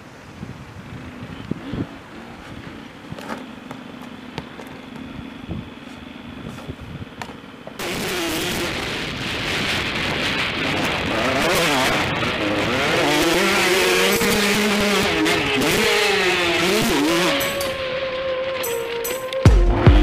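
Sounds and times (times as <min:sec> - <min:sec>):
dirt bike engine revving: 0:00.8 - 0:20.0.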